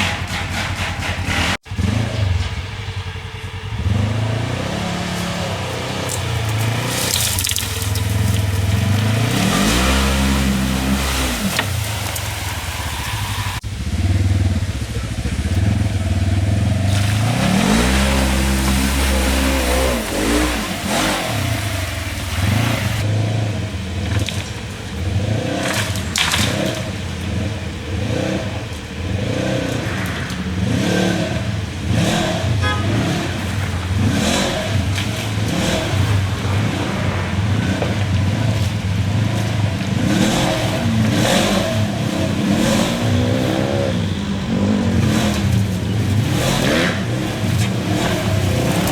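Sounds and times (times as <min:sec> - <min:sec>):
engine revving under load: 0:00.0 - 0:48.9.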